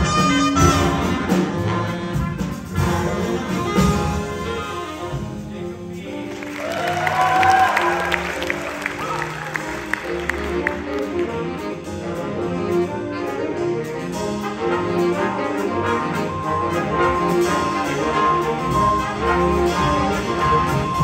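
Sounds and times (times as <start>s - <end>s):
jazz big band playing: 0.0s - 21.0s.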